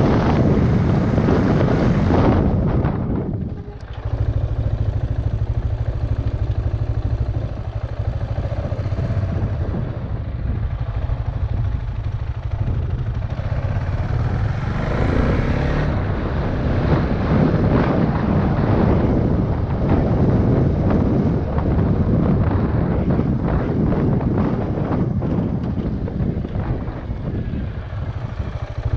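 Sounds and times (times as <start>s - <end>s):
motorcycle engine running: 0.0s - 28.9s
wind noise on microphone: 0.0s - 28.9s.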